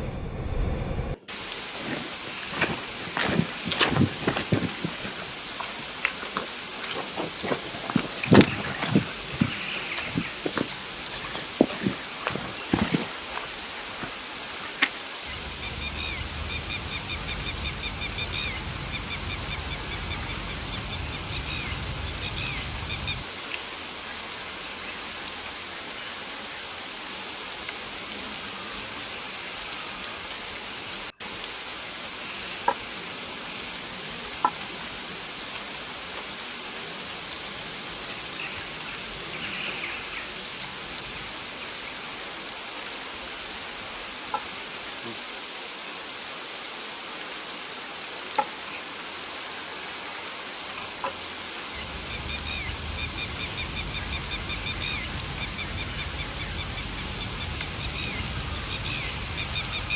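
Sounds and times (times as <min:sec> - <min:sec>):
steady rain: 0:01.0 - 0:59.9.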